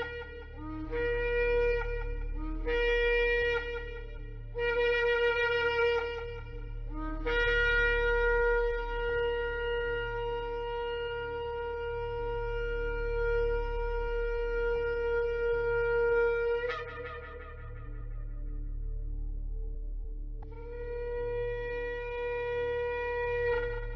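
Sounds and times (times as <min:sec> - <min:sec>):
shofar long note: 0:00.0 - 0:18.6, 0:20.6 - 0:23.9.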